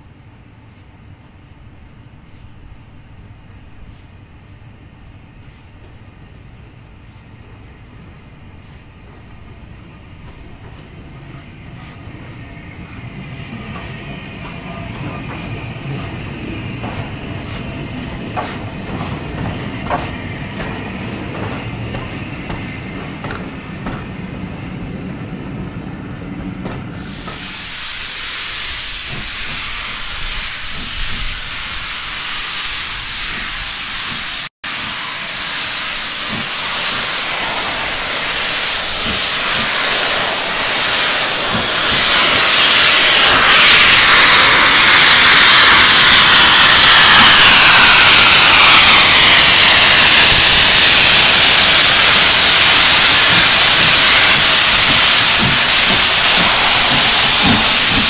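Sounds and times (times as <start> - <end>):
steam locomotive rumbling on rails: 0.0 - 58.0
steam venting hiss: 5.4 - 58.0.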